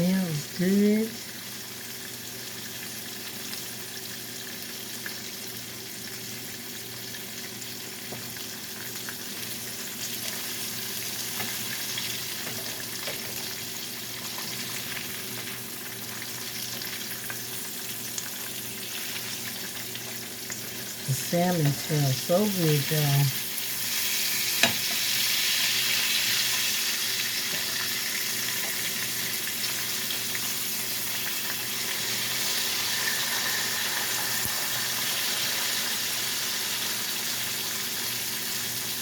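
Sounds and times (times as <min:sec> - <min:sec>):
fish sizzling in a skillet: 0:00.0 - 0:39.0.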